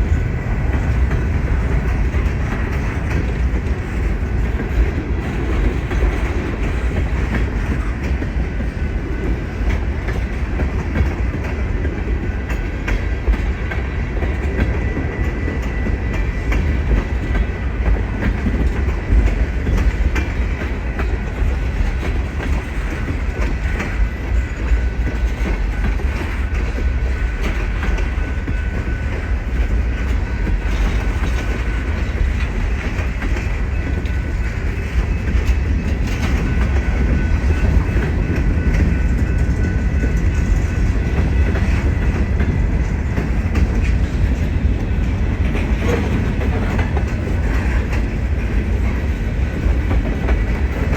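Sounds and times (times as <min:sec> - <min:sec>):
railroad cars rumbling past: 0:00.0 - 0:50.9
wheels clacking over rail joints: 0:00.0 - 0:50.9.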